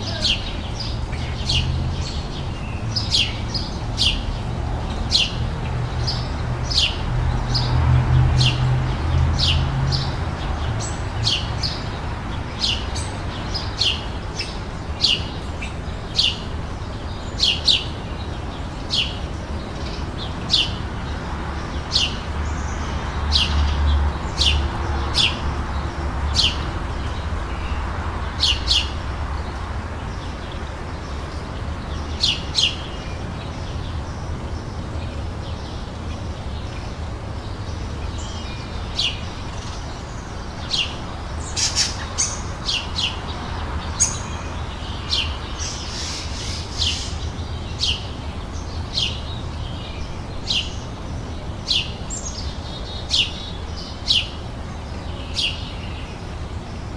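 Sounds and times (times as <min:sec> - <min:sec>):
songbird chirping: 0:00.0 - 0:56.9.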